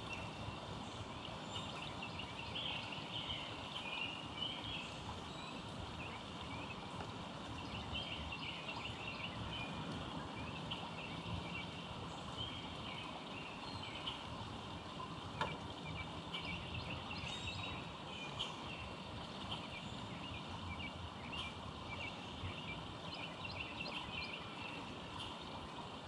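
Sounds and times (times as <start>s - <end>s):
steady background hiss: 0.0s - 26.0s
wild birds chirping: 0.0s - 26.0s.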